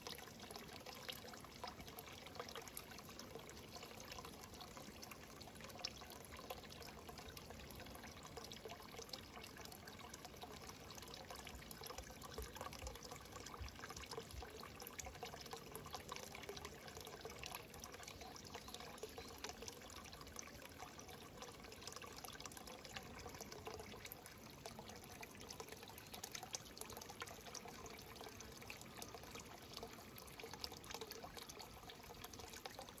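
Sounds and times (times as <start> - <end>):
water trickling into pond: 0.0 - 33.0.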